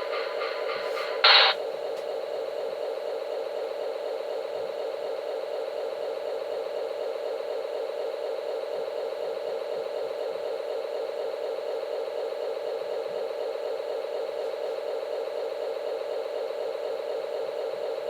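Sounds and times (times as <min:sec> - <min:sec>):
diesel locomotive engine from small speaker: 0:00.0 - 0:18.0.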